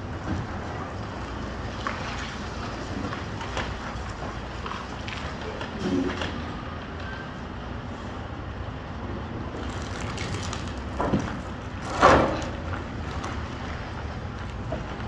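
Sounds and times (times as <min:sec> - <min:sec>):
diesel engine low rumble: 0:00.0 - 0:15.0.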